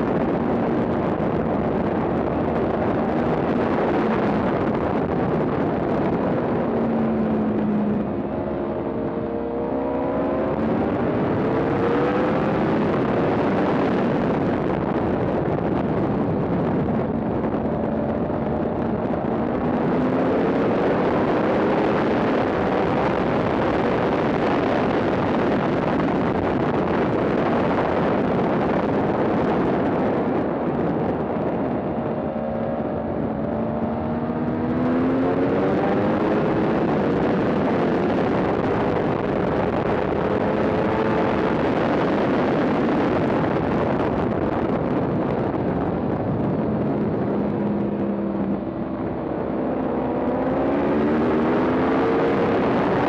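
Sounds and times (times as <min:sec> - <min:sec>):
motorcycle engine at high revs: 0:00.0 - 0:53.0
wind rush: 0:00.0 - 0:53.0.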